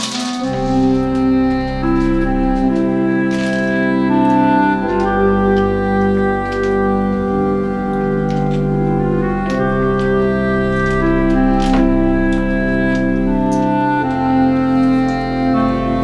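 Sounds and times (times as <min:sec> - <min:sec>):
organ playing slow chords: 0:00.0 - 0:16.0.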